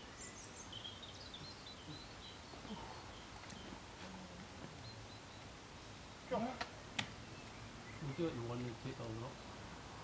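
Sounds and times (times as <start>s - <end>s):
small bird chirping: 0.0s - 3.9s, 4.7s - 9.5s
faint background hiss: 0.0s - 10.0s.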